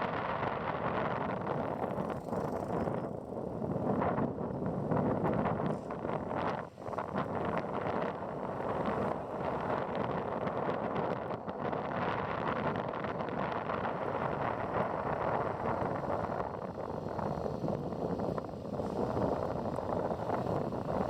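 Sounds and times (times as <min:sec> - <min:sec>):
vehicle and road noise: 0:00.0 - 0:21.0
wind rushing over microphone: 0:00.0 - 0:21.0.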